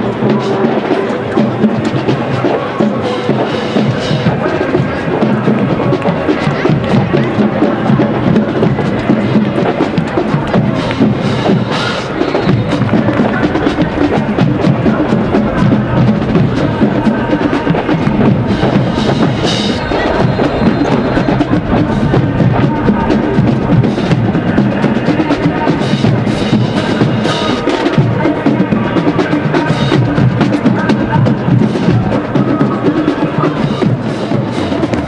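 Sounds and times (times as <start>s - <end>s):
marching drumline: 0.0s - 35.0s.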